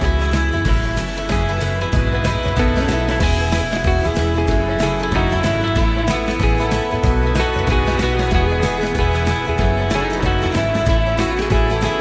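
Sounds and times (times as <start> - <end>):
acoustic guitar country music: 0.0 - 12.0.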